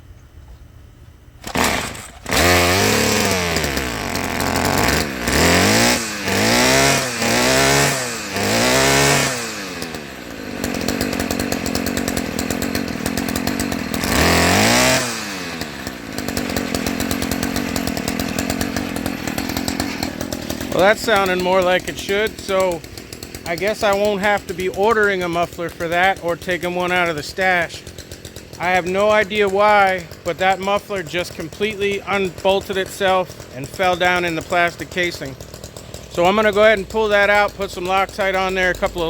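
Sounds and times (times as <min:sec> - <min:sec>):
string trimmer engine revving: 0:01.4 - 0:39.0.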